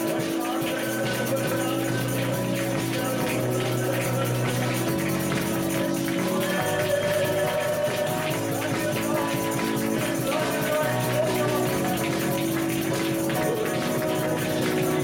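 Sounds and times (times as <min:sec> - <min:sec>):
live worship band music: 0:00.0 - 0:15.0
tambourine shaking: 0:00.0 - 0:15.0.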